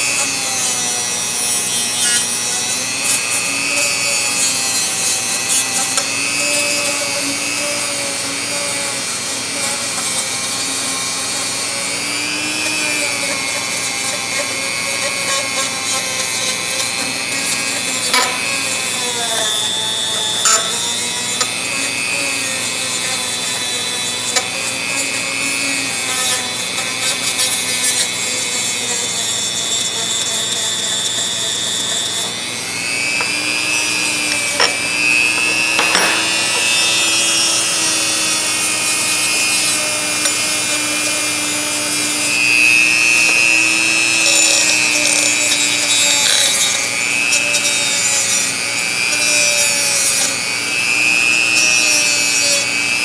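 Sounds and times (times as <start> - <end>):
rotary tool whining on metal: 0.0 - 53.0.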